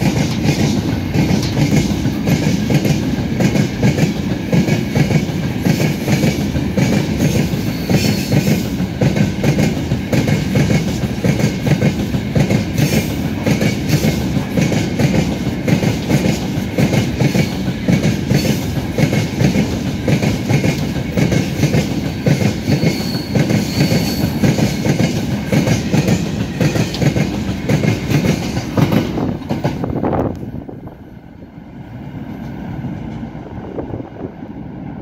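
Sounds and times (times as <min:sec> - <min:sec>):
freight train rumble: 0:00.0 - 0:35.0.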